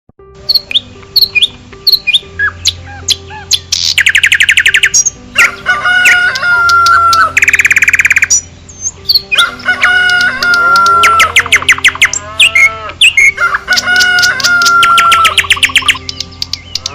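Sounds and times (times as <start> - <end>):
background music: 0.2 - 16.9
birds chirping and trilling: 0.4 - 16.9.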